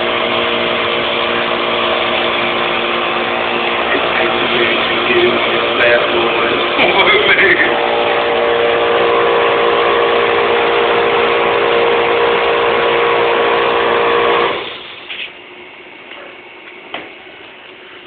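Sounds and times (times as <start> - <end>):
air compressor humming: 0.0 - 18.0.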